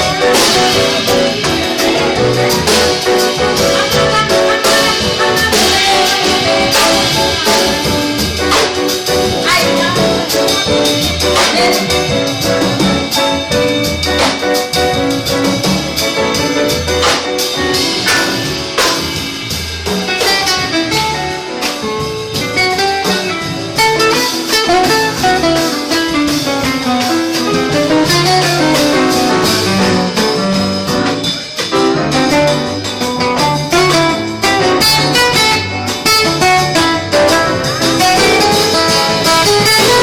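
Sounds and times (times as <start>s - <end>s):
bass: 0.0s - 40.0s
drum kit: 0.0s - 40.0s
guitar: 0.0s - 40.0s
lead melody line: 0.0s - 40.0s.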